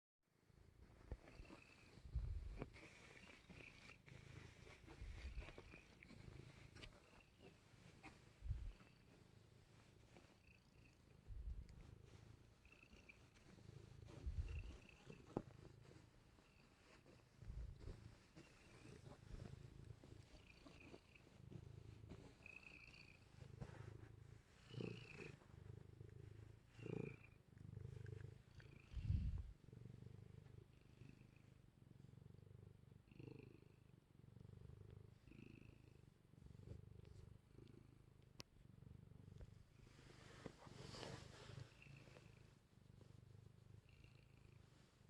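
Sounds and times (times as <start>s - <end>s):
cat purring: 0.4s - 45.0s.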